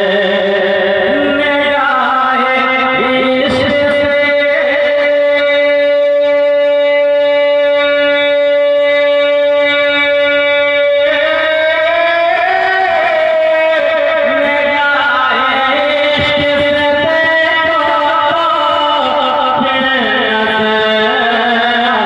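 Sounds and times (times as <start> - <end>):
man singing long note through pa: 0.0 - 22.0.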